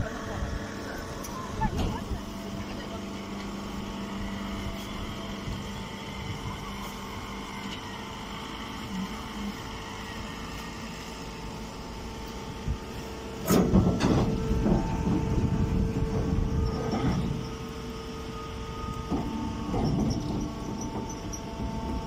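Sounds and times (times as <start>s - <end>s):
baler motor and pump hum: 0.0s - 22.0s.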